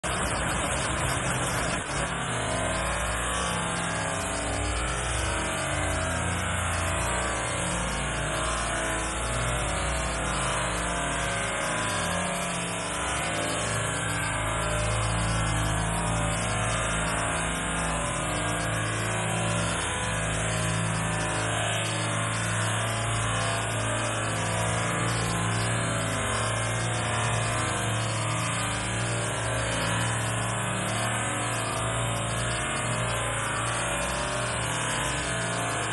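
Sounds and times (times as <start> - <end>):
small waterfall splashing into pool: 0.0 - 35.9.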